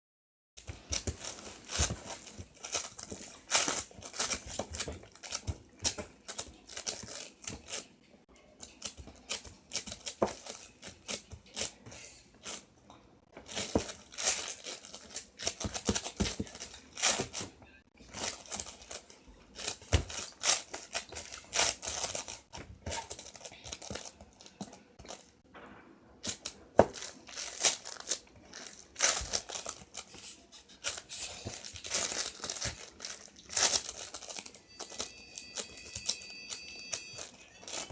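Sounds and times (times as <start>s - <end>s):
slime squished and crackling: 0.6s - 7.8s, 13.5s - 25.6s, 26.2s - 37.9s.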